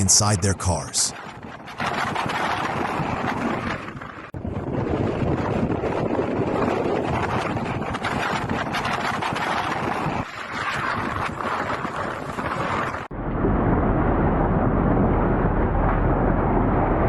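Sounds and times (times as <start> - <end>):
deep steady wind rumble: 0.0 - 17.0
wind buffeting microphone: 1.1 - 17.0.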